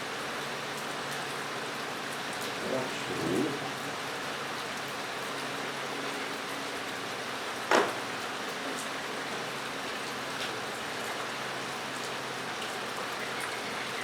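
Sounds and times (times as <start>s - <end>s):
rain drumming on metal roof: 0.0s - 14.0s.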